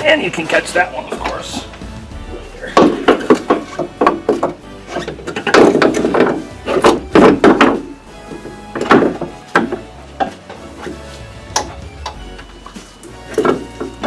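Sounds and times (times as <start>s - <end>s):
music playing: 0.0s - 14.0s
metal clunks and knocks: 1.1s - 14.0s.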